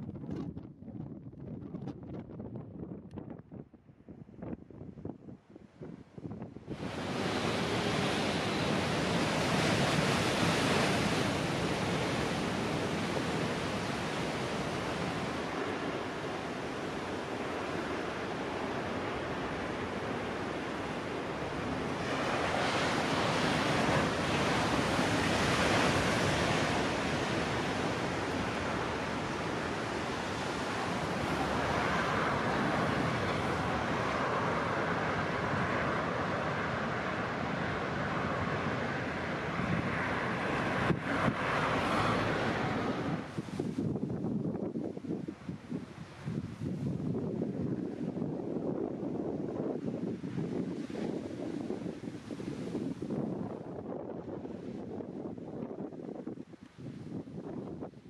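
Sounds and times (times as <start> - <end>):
heavy surf breaking waves: 6.6 - 58.0.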